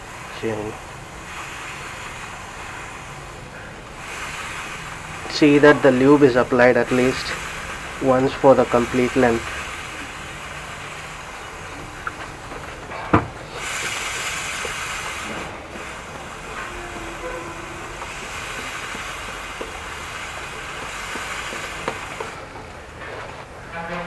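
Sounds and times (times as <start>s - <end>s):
aerosol spray hissing: 0.0s - 12.8s, 13.5s - 22.5s.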